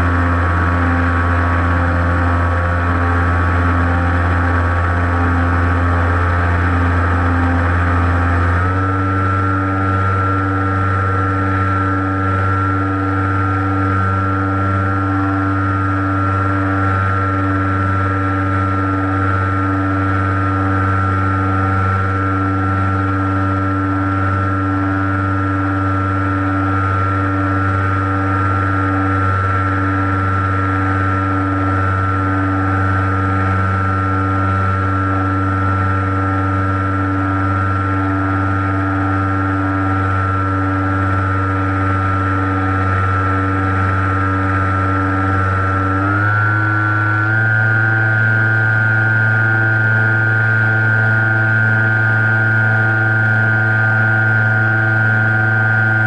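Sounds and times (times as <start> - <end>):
model airplane motor whine: 0.0 - 56.0.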